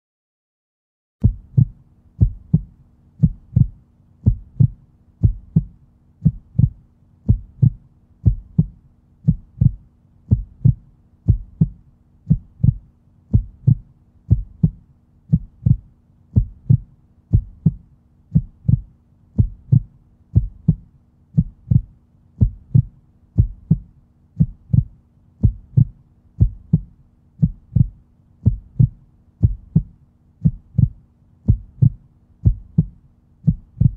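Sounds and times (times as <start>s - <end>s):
faint low hum: 1.2s - 33.9s
heartbeat thumps: 1.2s - 33.9s.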